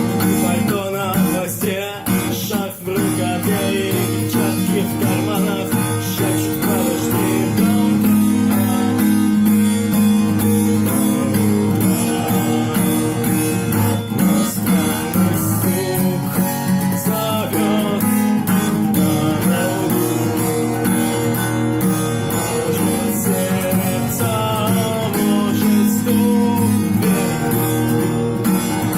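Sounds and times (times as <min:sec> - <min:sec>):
guitar strumming: 0:00.0 - 0:28.9.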